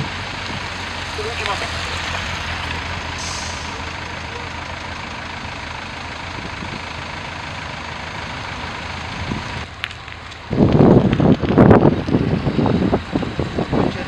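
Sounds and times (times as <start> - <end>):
vehicle engines idling: 0.0 - 14.0.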